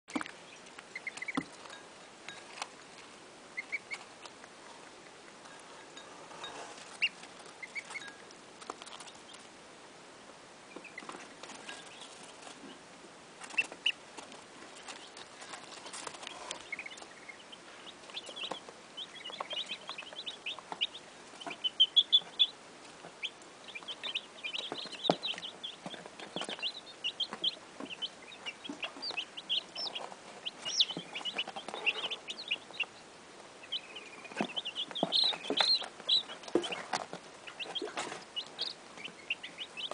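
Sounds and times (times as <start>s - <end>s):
goslings peeping: 0.1s - 1.7s, 3.5s - 4.4s, 5.5s - 9.5s, 10.7s - 12.8s, 13.4s - 39.9s
chicks peeping: 0.1s - 9.6s, 10.6s - 39.9s.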